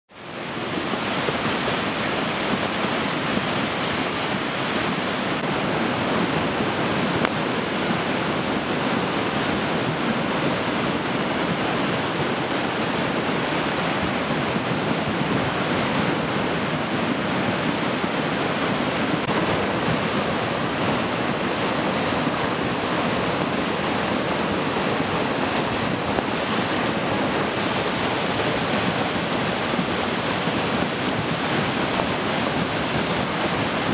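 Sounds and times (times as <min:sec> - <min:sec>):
floodwater rushing down creek: 0:00.1 - 0:33.9.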